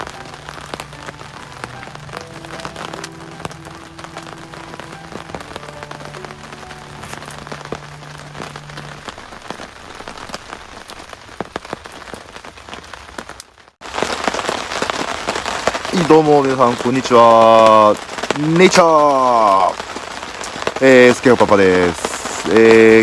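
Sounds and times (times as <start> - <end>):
rain drops ticking on surface: 0.0 - 23.0.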